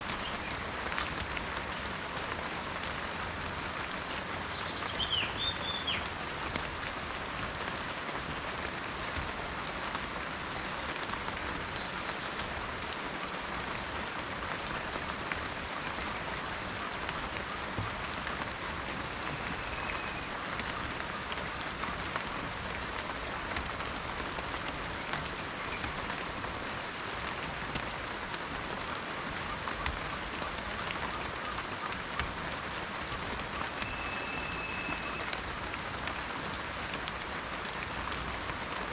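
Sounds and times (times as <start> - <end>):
rain on forest: 0.0 - 38.9.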